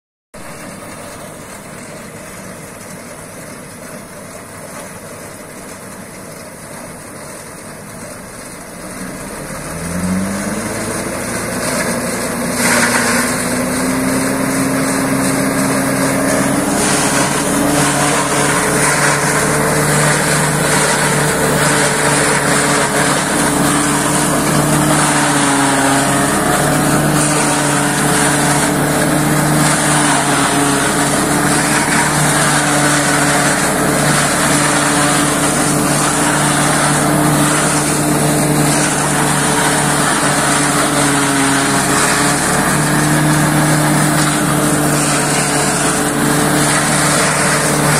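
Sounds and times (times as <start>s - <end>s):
harvester engine running: 0.4s - 47.9s.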